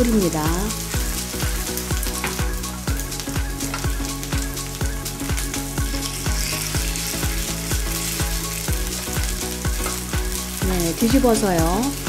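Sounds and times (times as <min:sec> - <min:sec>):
background music with steady beat: 0:00.0 - 0:12.0
pancakes sizzling in oil: 0:00.0 - 0:12.0.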